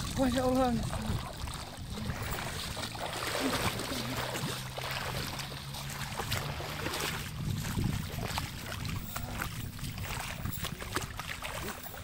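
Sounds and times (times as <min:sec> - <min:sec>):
flowing river water: 0:00.0 - 0:12.0
footsteps splashing through water: 0:00.0 - 0:12.0.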